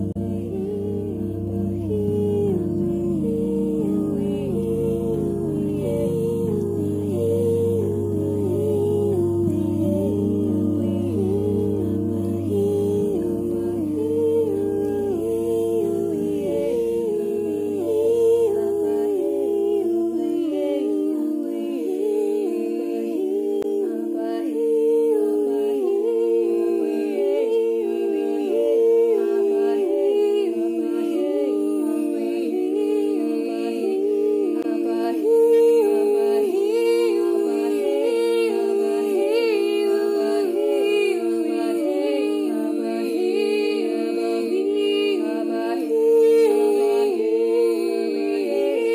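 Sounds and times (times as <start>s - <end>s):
group singing a capella: 0.0s - 48.9s
low drone: 0.0s - 48.9s.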